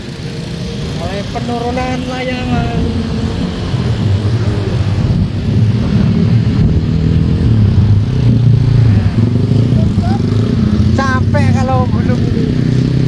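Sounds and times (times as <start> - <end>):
motorcycle and car engines passing: 0.0 - 13.0.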